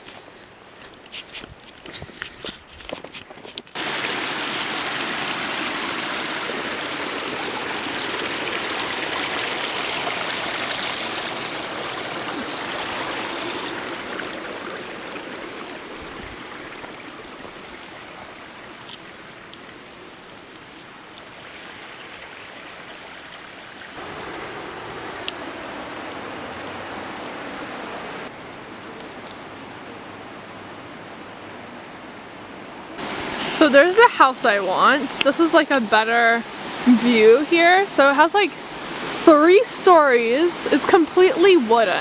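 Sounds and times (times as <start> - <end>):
creek water rushing over rocks: 3.6 - 31.6, 32.9 - 42.0.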